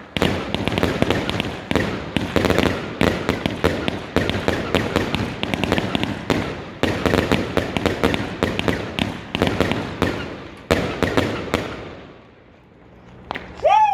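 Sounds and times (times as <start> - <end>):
fireworks bangs and crackles: 0.0 - 12.4.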